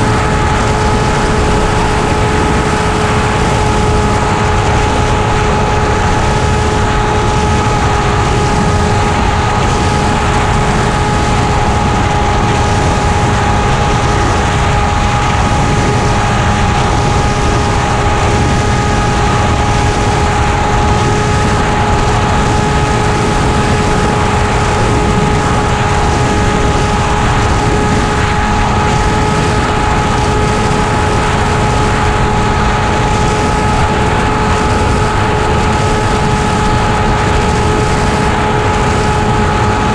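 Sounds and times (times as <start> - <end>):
model airplane motor and propeller: 0.0 - 39.9
wind rushing over microphone: 0.0 - 39.9.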